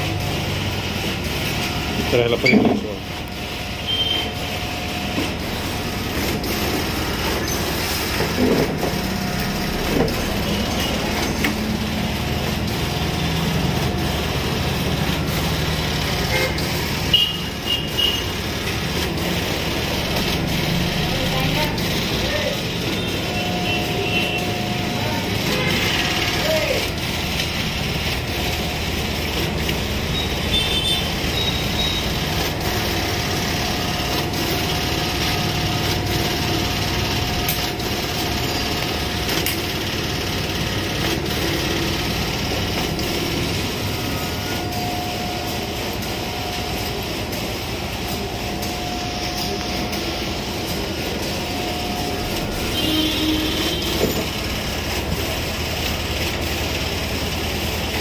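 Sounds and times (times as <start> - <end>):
printer running with faint hum: 0.0 - 58.0.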